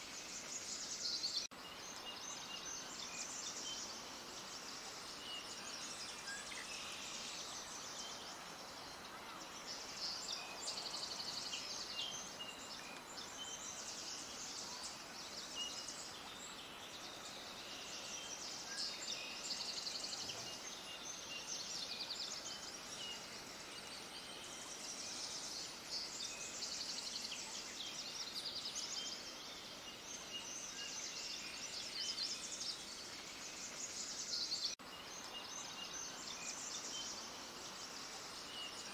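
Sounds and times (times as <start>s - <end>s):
flock of small birds chirping: 0.0s - 38.9s
steady background hiss: 0.0s - 38.9s.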